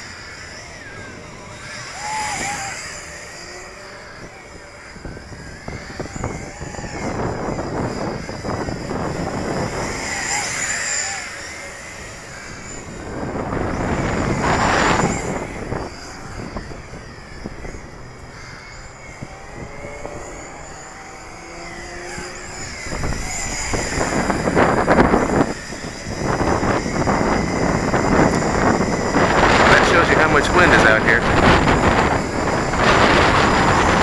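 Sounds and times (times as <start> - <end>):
drone motors whining: 0.0 - 34.0
gusty wind: 0.0 - 34.0.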